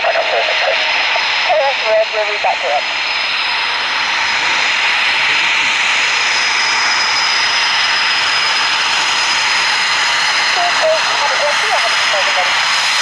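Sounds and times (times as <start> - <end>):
high steady jet whine: 0.0 - 13.0
jet engines roaring: 0.0 - 13.0.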